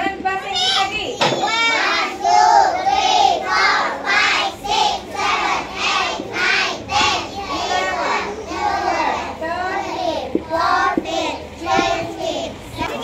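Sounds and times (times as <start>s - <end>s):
children singing: 1.4s - 13.0s.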